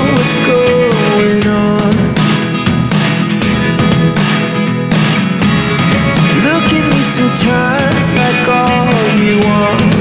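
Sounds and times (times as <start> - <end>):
music with guitar: 0.0 - 10.0.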